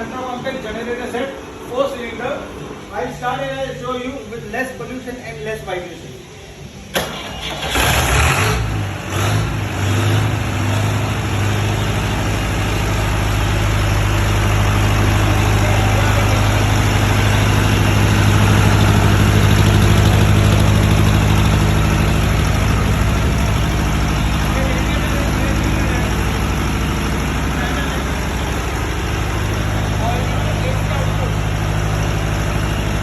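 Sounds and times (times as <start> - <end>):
diesel generator engine running: 0.0 - 5.2, 6.0 - 33.0.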